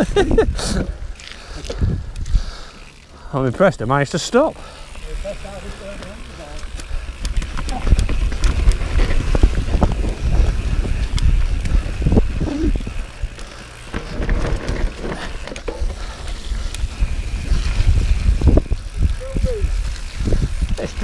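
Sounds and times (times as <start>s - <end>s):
wind buffeting microphone: 0.0s - 2.7s, 6.6s - 21.0s
bike chain and frame rattling: 0.0s - 21.0s
bike tyres on dirt: 0.0s - 21.0s.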